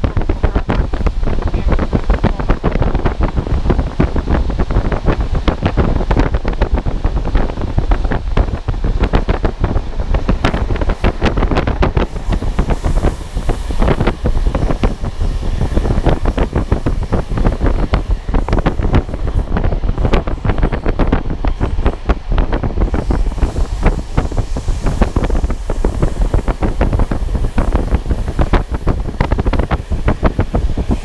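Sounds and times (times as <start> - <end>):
train rumbling: 0.0 - 31.0
wind buffeting microphone: 0.0 - 31.0.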